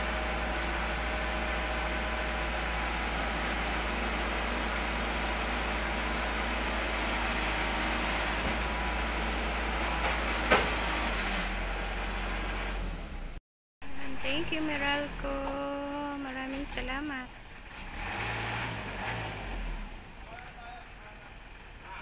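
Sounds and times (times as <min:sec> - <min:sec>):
truck engine idling: 0:00.0 - 0:18.6, 0:19.4 - 0:22.0.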